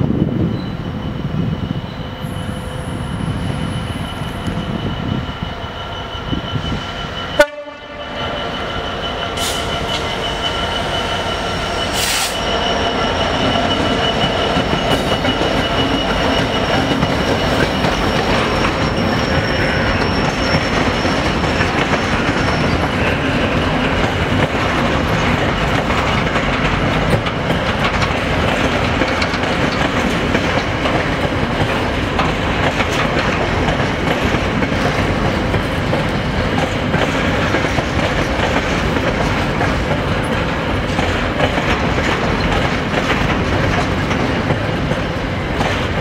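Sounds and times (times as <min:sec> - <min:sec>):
train whine and wheel rumble: 0:00.0 - 0:46.0.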